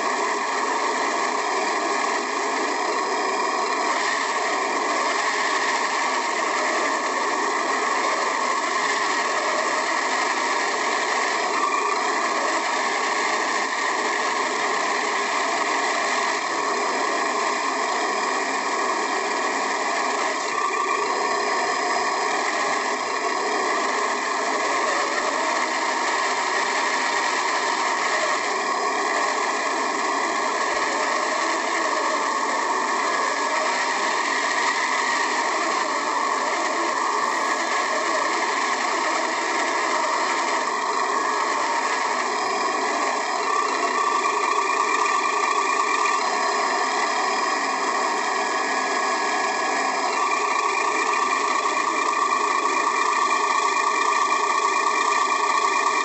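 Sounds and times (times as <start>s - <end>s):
toy car motor running: 0.0s - 56.0s.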